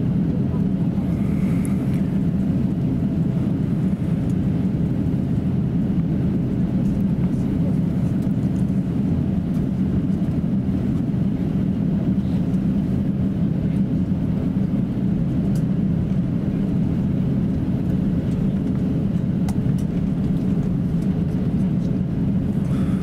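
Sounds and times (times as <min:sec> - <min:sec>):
airliner cabin rumble while taxiing: 0:00.0 - 0:23.0.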